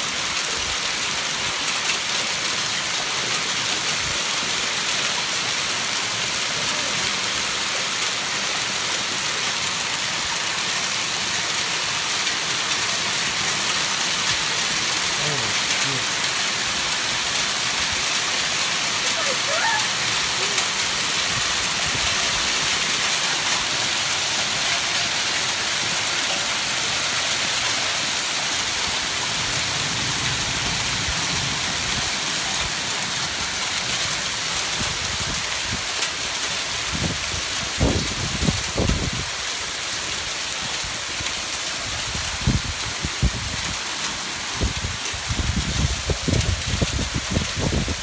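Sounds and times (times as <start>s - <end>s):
hail and rain on water and concrete: 0.0s - 48.0s.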